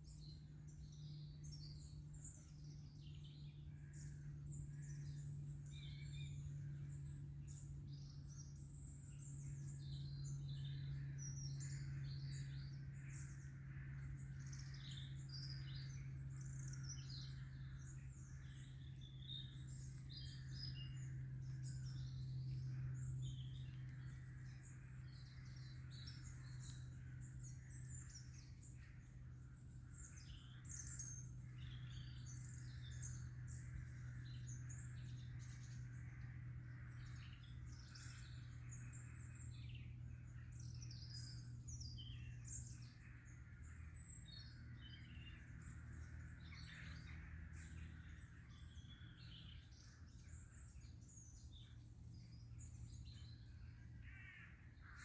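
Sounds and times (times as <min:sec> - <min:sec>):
small birds chirping: 0:00.0 - 0:55.0
steady low hum: 0:00.0 - 0:55.0.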